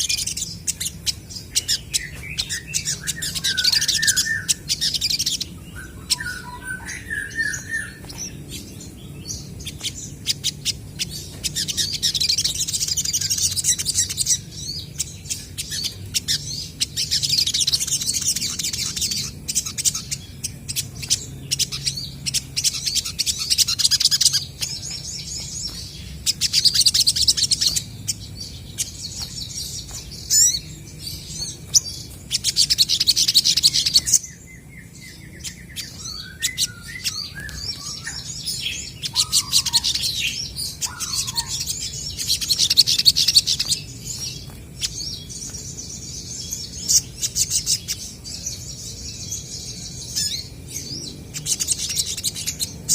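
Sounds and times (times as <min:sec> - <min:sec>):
high-pitched bird twittering: 0:00.0 - 0:52.9
lower bird chirps: 0:00.0 - 0:52.9
sharp bird ticking calls: 0:00.0 - 0:52.9.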